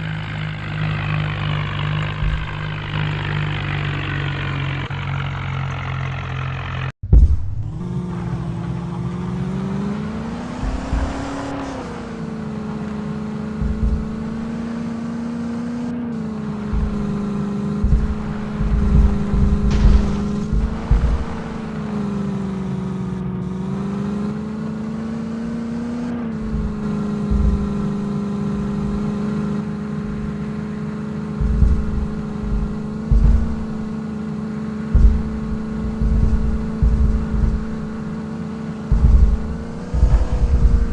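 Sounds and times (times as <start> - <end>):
tractor diesel engine running: 0.0 - 40.9
low thumps: 0.8 - 4.9, 6.9 - 24.2, 25.1 - 40.9.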